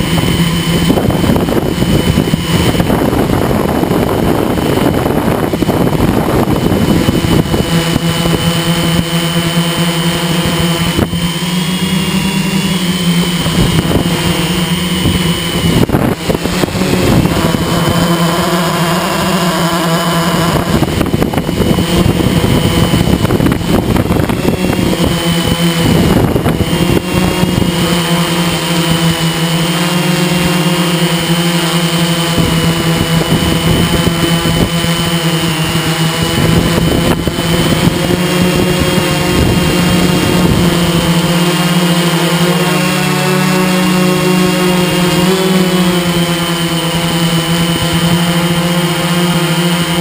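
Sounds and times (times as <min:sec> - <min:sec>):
drone motors humming and whining: 0:00.0 - 0:50.0
wind buffeting on microphone: 0:00.0 - 0:50.0.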